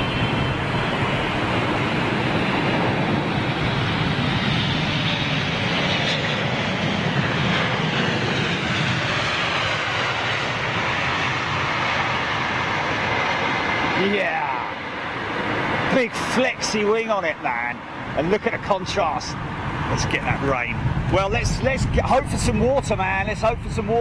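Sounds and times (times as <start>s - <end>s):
faint high engine whine: 0.0s - 24.0s
jet engines rushing: 0.0s - 24.0s.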